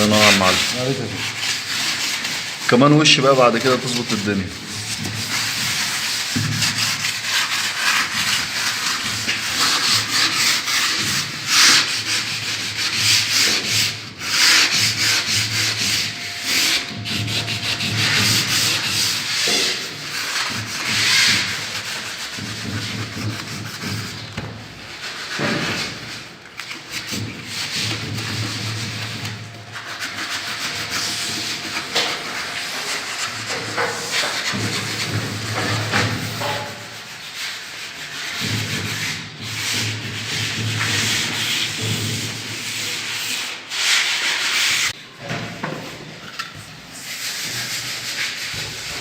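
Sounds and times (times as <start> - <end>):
sandpaper rubbing on wood: 0.0 - 45.0, 47.0 - 49.0.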